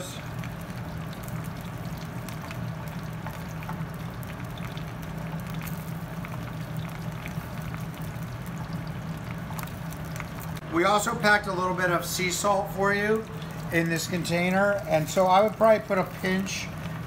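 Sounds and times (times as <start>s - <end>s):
food sizzling: 0.0s - 17.0s
low steady hum: 0.0s - 17.0s.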